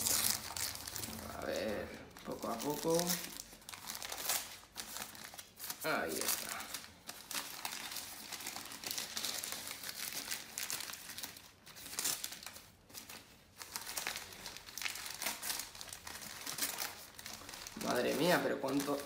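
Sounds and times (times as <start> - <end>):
newspaper crumpling and rustling: 0.0 - 19.0.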